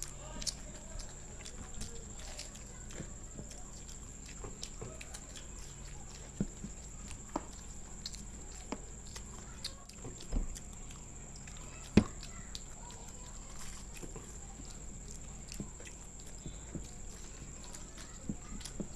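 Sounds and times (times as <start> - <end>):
chewing and crunching food: 0.0 - 18.9.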